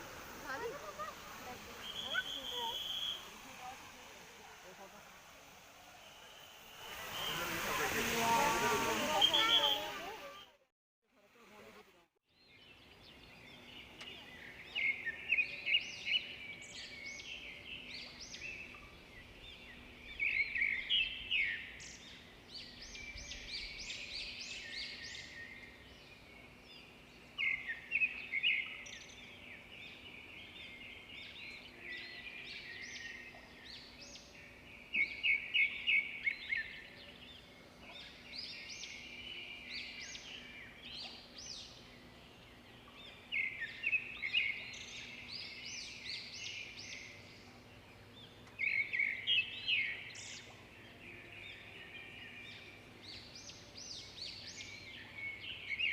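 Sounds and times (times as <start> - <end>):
small birds chirping: 0.0 - 10.6, 11.3 - 55.9.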